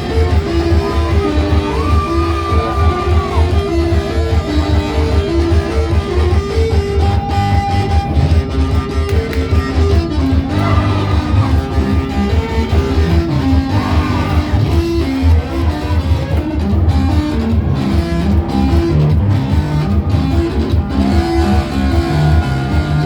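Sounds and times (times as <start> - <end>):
guitar: 0.0 - 23.0
steady beat: 0.0 - 23.0
walking bass line: 0.0 - 23.0.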